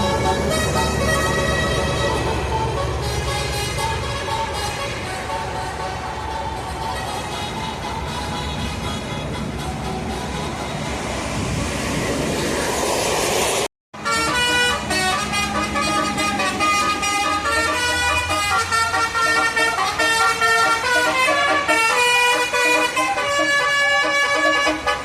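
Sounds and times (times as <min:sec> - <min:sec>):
bus musical horn melody: 0:00.0 - 0:11.6, 0:13.9 - 0:25.0
rush of vehicle noise: 0:00.0 - 0:25.0.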